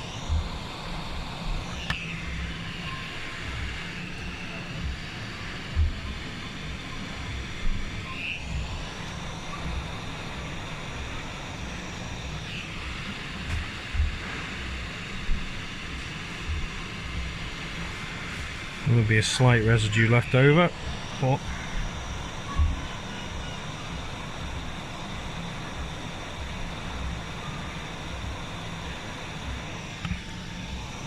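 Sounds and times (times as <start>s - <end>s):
small motor whirring: 0.0s - 31.0s.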